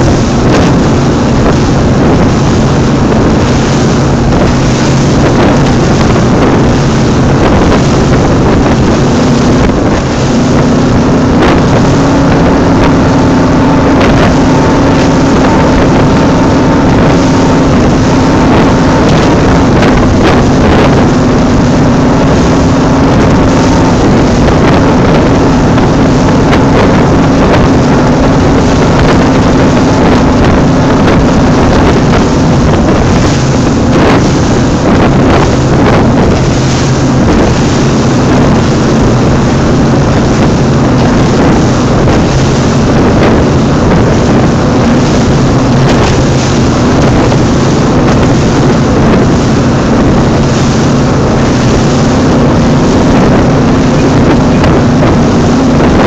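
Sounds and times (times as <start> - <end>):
rushing wind: 0.0 - 56.0
speedboat engine droning: 0.0 - 56.0.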